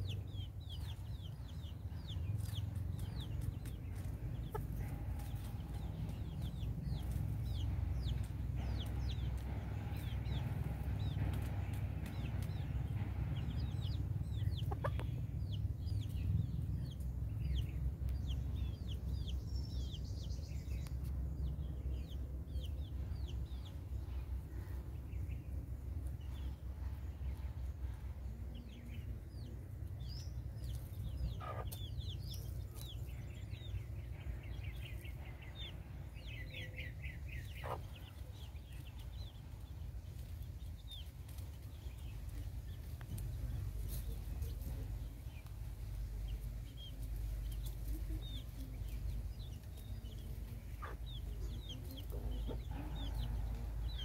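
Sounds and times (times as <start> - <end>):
chickens calling: 0.0 - 54.0
steady low rumble: 0.0 - 54.0.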